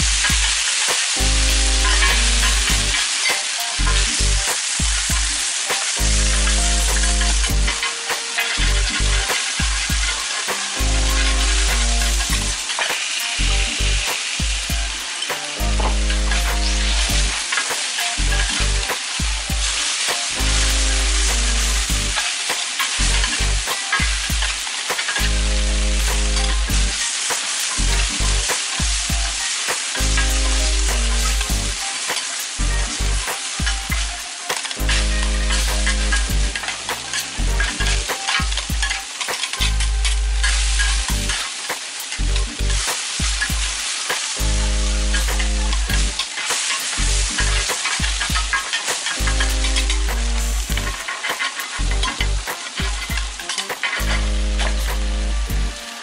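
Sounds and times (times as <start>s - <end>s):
background music with bass line: 0.0s - 27.1s, 27.8s - 31.9s, 32.6s - 43.8s, 44.4s - 46.2s, 46.8s - 56.0s
batter sizzling on a griddle: 0.0s - 56.0s.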